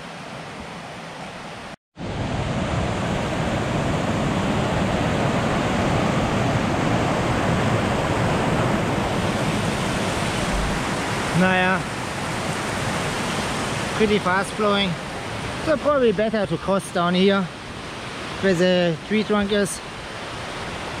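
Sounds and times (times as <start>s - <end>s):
water rushing over rocks: 2.0s - 21.0s.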